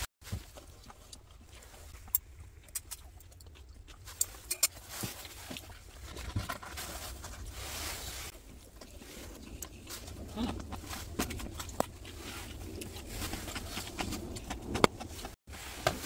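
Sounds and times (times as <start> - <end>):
low outdoor rumble: 0.0 - 15.8.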